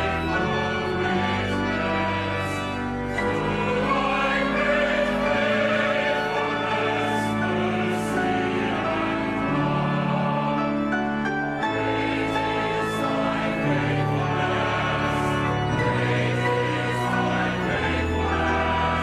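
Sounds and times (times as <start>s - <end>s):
choir singing held chords: 0.0s - 19.0s.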